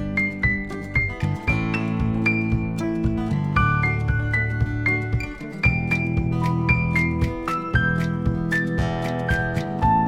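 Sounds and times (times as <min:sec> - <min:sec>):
acoustic guitar tune: 0:00.0 - 0:10.0.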